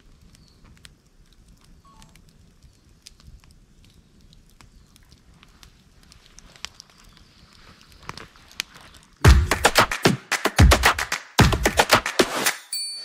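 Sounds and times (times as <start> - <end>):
campfire crackling: 0.0 - 12.6
fire pops: 0.0 - 12.6.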